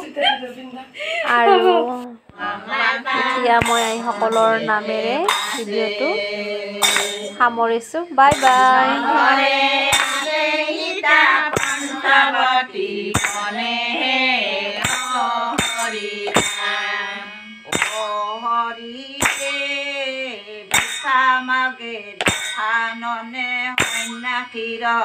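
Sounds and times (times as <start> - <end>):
women chanting together: 2.3 - 25.0
metallic clang keeping time: 3.1 - 25.0.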